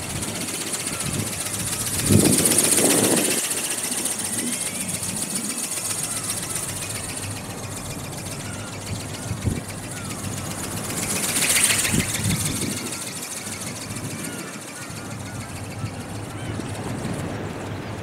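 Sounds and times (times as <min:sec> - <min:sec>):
high pulsing motor whir: 0:00.0 - 0:18.0
wind buffeting microphone: 0:00.0 - 0:18.0.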